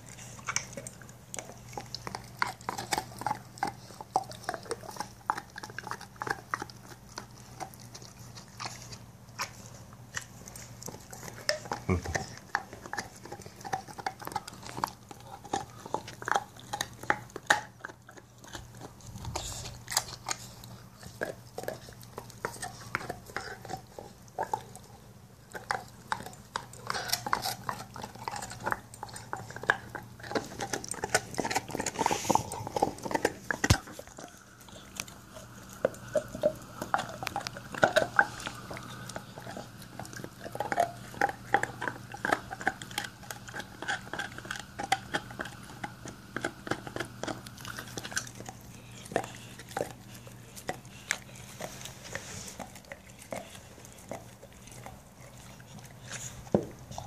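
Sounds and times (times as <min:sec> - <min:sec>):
dog gnawing a bone: 0:00.0 - 0:57.0.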